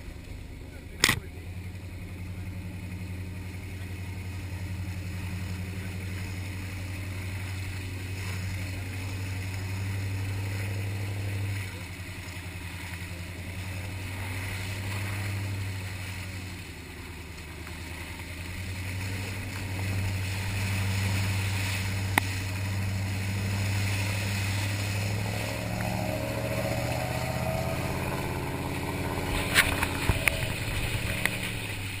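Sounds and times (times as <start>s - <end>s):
engine running at low revs: 0.0s - 32.0s.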